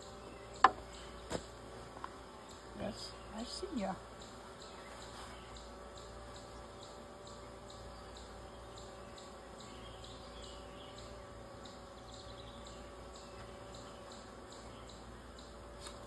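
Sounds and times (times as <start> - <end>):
honeybee swarm humming: 0.0 - 16.0.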